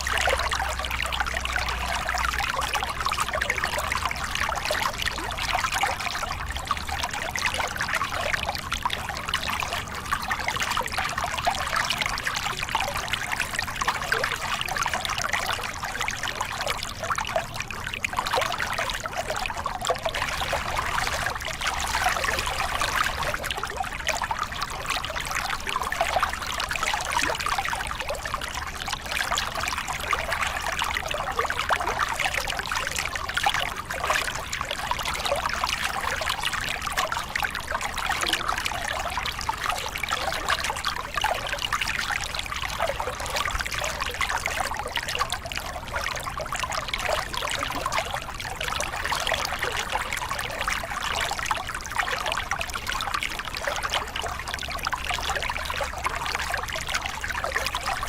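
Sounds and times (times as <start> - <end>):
water splashing over rocks: 0.0 - 58.0.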